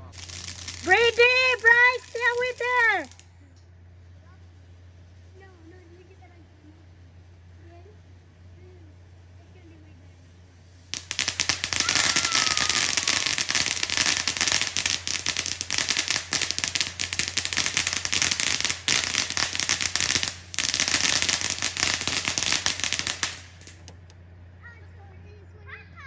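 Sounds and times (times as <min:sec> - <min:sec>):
firework fountain crackling: 0:00.0 - 0:03.4, 0:04.0 - 0:24.2.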